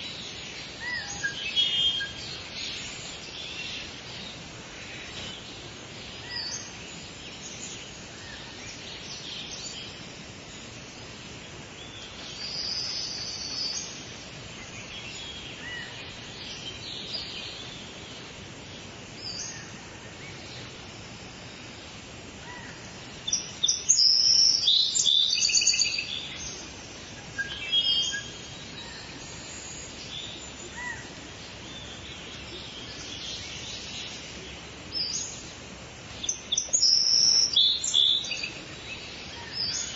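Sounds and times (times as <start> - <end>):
birds singing and chirping: 0.0 - 39.9
steady background hiss: 0.0 - 39.9.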